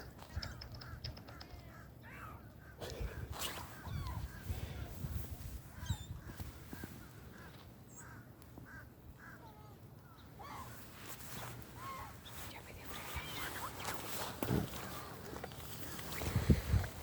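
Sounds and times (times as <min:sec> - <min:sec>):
birds calling: 0:00.0 - 0:17.0
faint background noise: 0:00.0 - 0:17.0.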